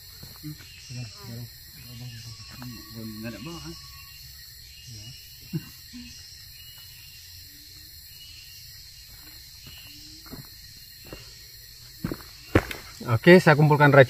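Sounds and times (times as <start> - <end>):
forest insects chorus: 0.0 - 14.0.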